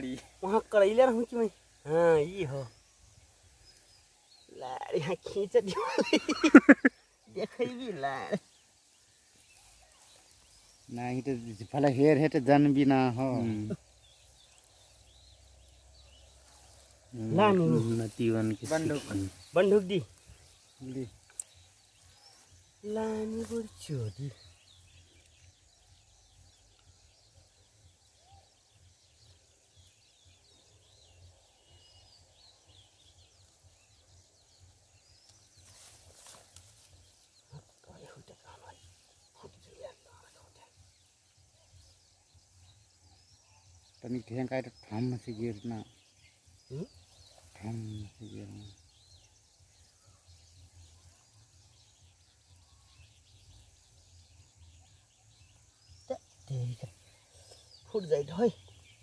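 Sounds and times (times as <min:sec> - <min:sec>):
distant birds chirping: 0:00.0 - 0:59.0.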